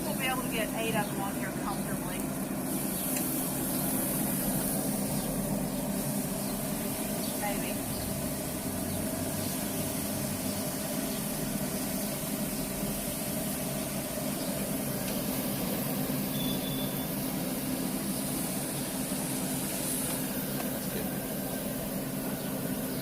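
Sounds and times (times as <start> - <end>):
even hiss: 0.0 - 23.0
grill fan humming: 0.0 - 23.0.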